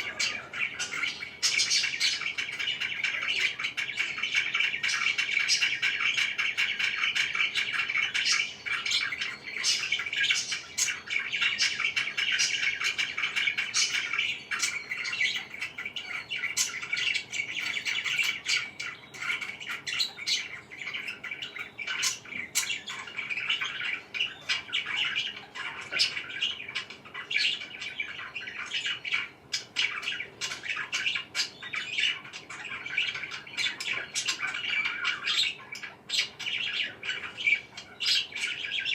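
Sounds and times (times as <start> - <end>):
parakeets chirping and squawking: 0.0 - 38.9.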